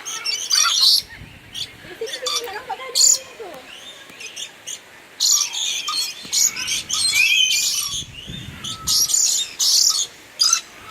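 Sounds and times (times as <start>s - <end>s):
flock of small birds chirping: 0.0s - 10.9s.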